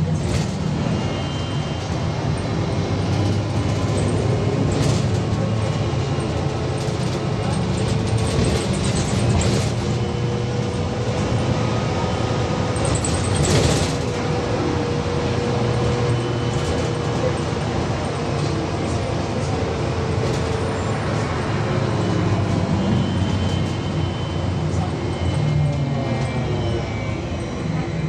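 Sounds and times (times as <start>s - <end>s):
rumble of tyres and body: 0.0s - 28.0s.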